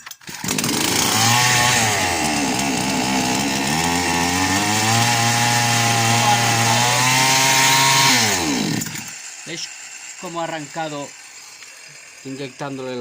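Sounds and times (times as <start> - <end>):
chainsaw engine starting and running: 0.0 - 13.0.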